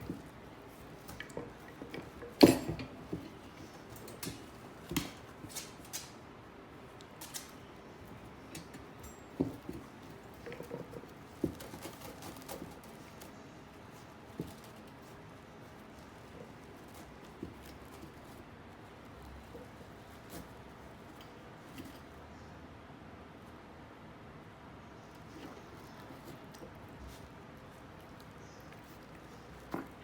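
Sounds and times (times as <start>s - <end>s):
puppy pattering and scratching: 0.0s - 22.4s, 24.8s - 30.0s.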